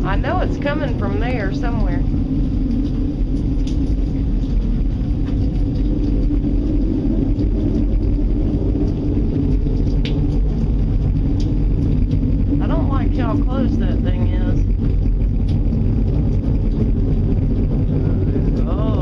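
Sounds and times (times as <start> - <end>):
low rumble with droning hum: 0.0 - 19.0.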